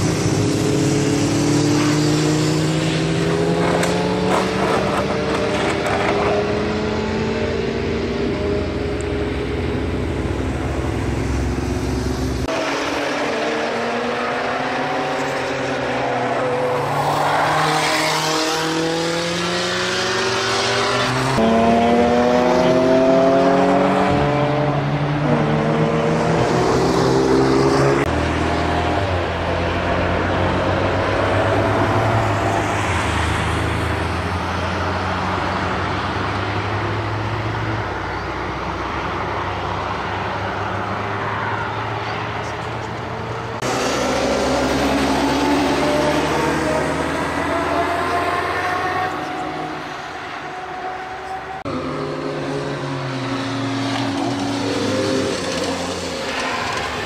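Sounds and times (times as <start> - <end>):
vehicles accelerating past: 0.0 - 57.0.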